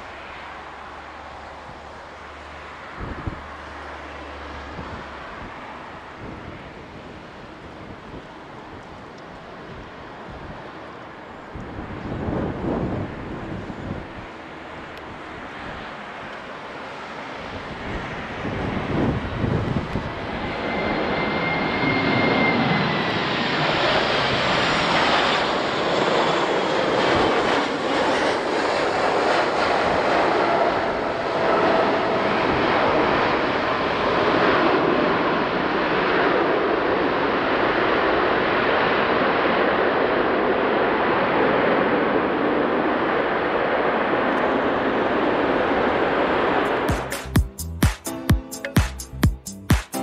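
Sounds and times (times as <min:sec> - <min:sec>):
jet engine rush: 0:00.0 - 0:47.4
jet engine whine: 0:00.0 - 0:47.4.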